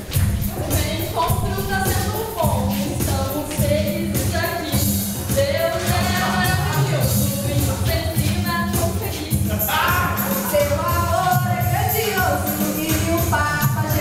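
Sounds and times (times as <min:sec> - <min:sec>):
dance music: 0:00.0 - 0:14.0
person singing: 0:00.0 - 0:14.0.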